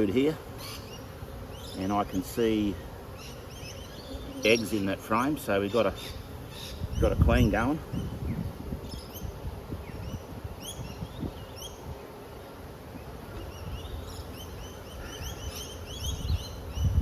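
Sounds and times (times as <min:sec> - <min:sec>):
birds chirping: 0:00.0 - 0:17.0
honey bees buzzing: 0:00.0 - 0:17.0.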